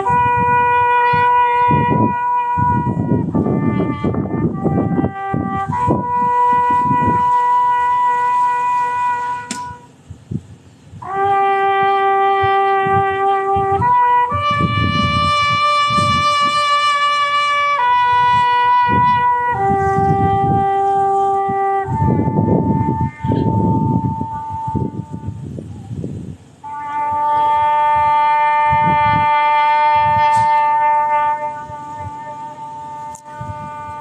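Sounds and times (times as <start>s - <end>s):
bugle notes: 0.0s - 25.6s, 26.4s - 34.0s
low rumbling noise: 0.0s - 34.0s.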